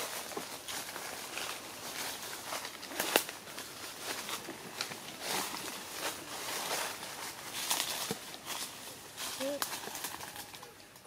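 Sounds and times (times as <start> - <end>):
rustling and crackling: 0.0 - 11.0.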